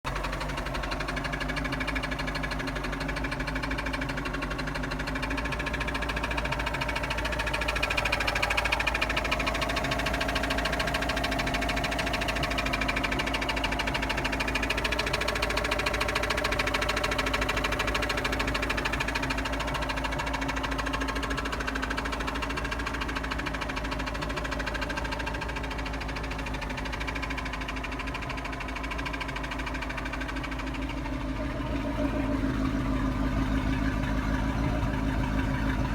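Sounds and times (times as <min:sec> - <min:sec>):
engine running: 0:00.0 - 0:35.9
fast even engine knocking: 0:00.0 - 0:35.9.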